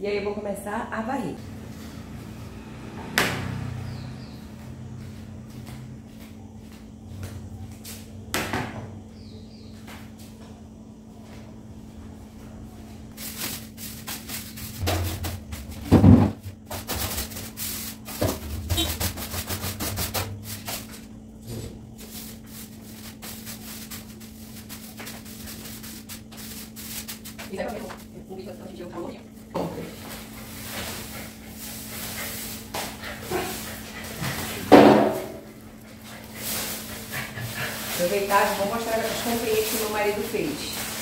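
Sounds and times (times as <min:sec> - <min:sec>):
broom sweeping tiled floor: 0:01.4 - 0:08.3, 0:09.2 - 0:41.0
steady low hum: 0:03.9 - 0:41.0.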